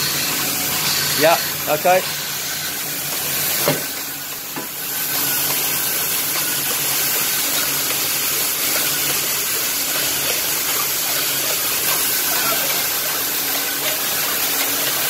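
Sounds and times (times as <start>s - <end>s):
printing press running: 0.0s - 15.0s.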